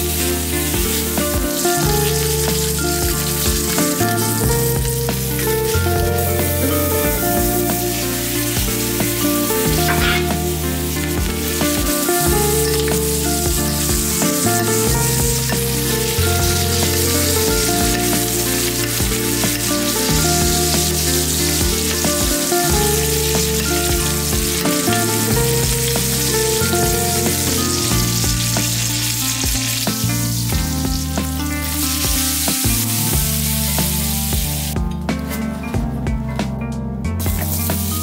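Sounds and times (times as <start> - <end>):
meat sizzling in butter: 0.0 - 35.4, 37.3 - 38.0
background music: 0.0 - 38.0.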